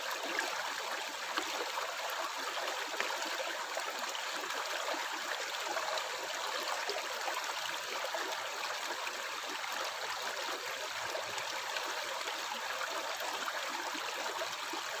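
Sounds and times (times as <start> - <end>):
stream water flowing and gurgling: 0.0 - 15.0.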